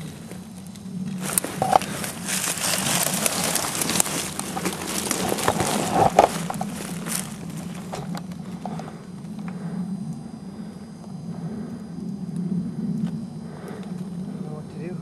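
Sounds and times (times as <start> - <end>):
twigs and leaves crackling: 0.0 - 14.4.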